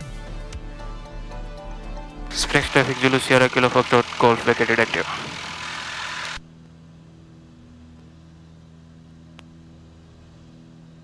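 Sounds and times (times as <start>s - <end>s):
aircraft engines humming: 2.2s - 11.0s.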